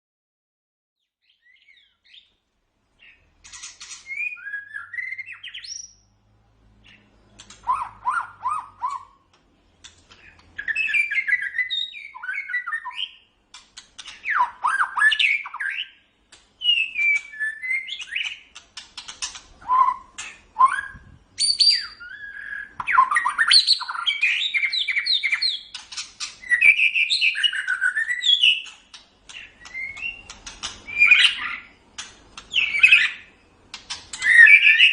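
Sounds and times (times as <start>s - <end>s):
songbird singing: 1.0s - 34.9s.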